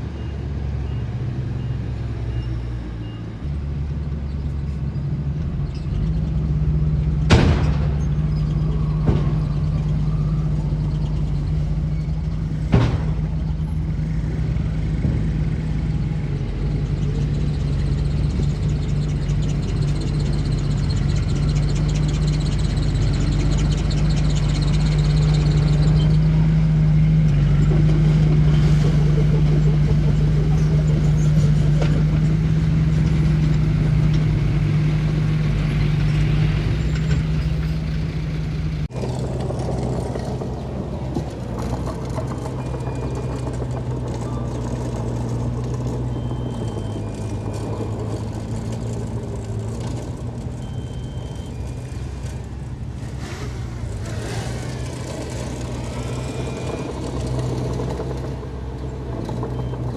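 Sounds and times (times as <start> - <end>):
diesel construction machinery running: 0.0 - 59.9.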